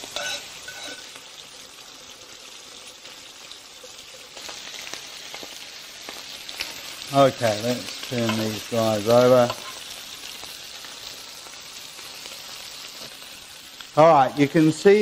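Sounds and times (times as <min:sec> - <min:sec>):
seafood sizzling in grill pan: 0:00.0 - 0:15.0.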